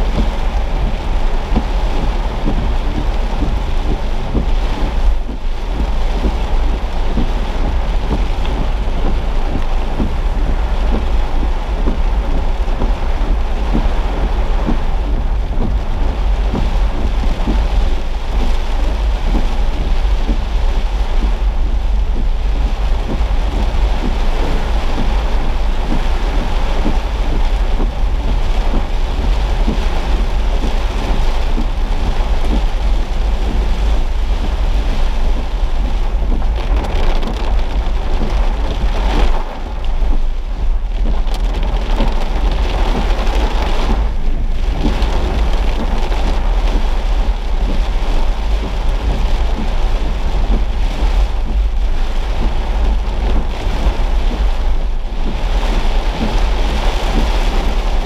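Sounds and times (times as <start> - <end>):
deep rumble of car: 0.0 - 58.0
heavy rain on a car: 0.0 - 58.0.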